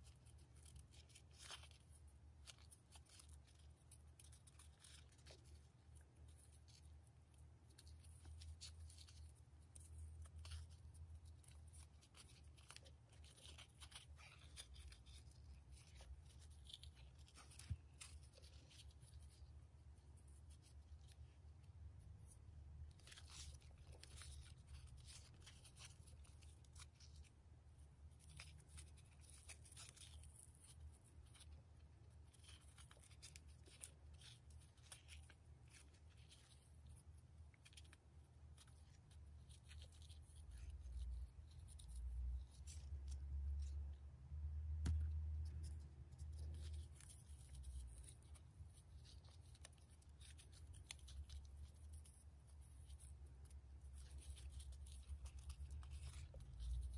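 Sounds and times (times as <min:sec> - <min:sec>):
ribbon rustling and scraping: 0:00.0 - 0:56.9.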